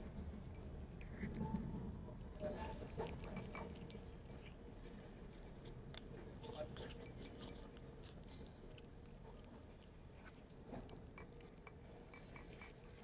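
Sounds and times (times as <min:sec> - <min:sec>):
kitten crunching dry kibble: 0:02.3 - 0:13.0.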